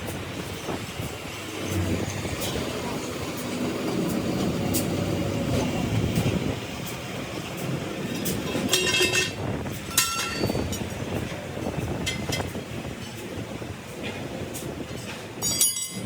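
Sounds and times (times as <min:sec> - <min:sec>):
mechanical rumble: 0:00.0 - 0:15.6.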